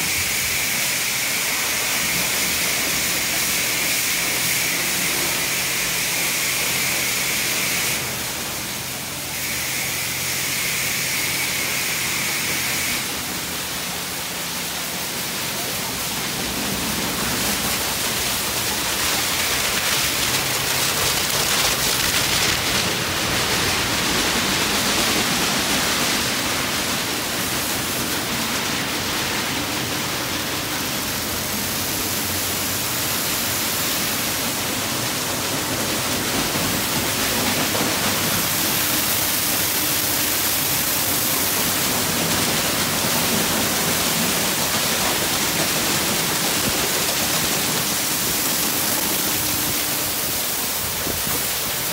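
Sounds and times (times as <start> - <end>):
car wash water jets and brushes: 0.0 - 51.9.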